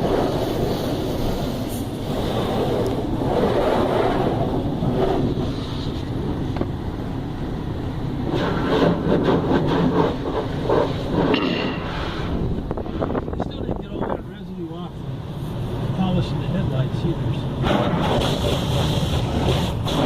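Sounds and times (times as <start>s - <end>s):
car wash water spray and machinery: 0.0s - 20.0s.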